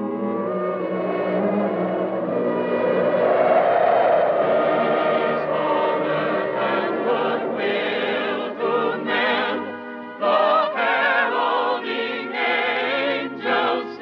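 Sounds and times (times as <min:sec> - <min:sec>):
orchestral music with choir-like voices: 0:00.0 - 0:14.0.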